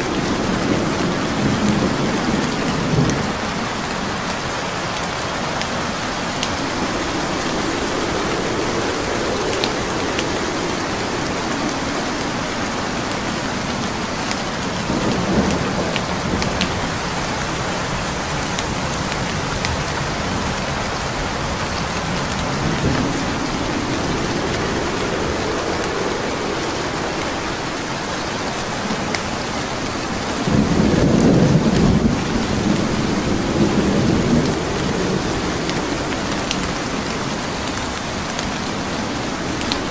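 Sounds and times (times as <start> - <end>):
low rolls of thunder: 0.0 - 39.9
steady rain: 0.0 - 39.9
wood fire crackling: 0.0 - 39.9.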